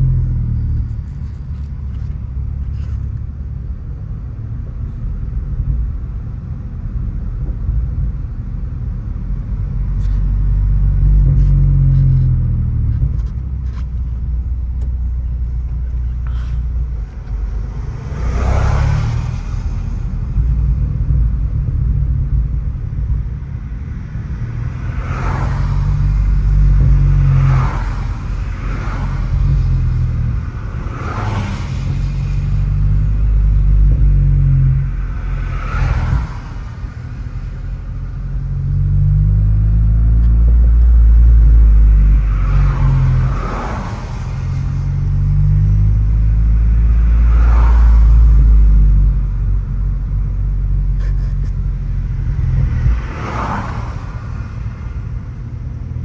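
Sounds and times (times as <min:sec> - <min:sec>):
car exhaust droning: 0:00.0 - 0:56.0.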